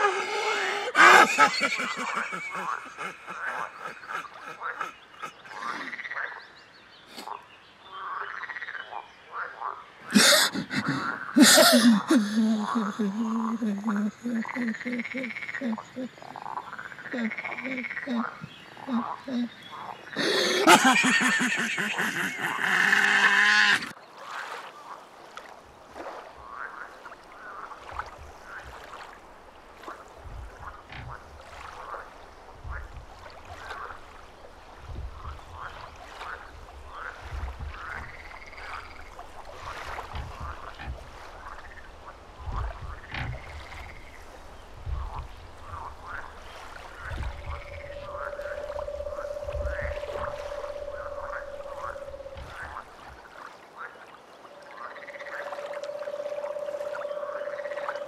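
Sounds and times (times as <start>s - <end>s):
frogs croaking in chorus: 0.0s - 6.6s, 7.3s - 23.9s, 26.4s - 29.0s, 35.2s - 58.0s.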